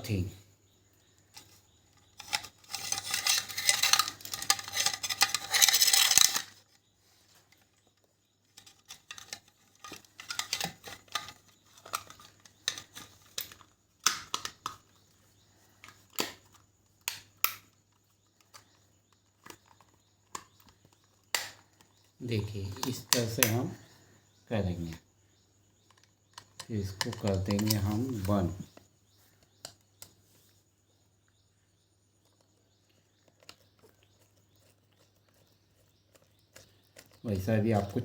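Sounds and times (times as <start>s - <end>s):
small parts scraping and rattling: 1.1s - 25.0s, 25.7s - 30.7s, 32.2s - 38.0s.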